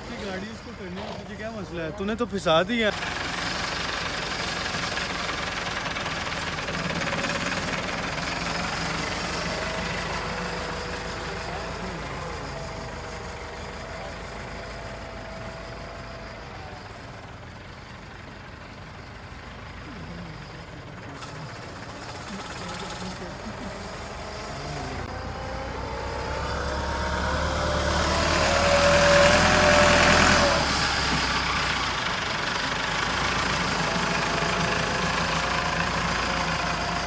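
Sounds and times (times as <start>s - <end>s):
diesel tractor engine running: 0.0s - 37.0s.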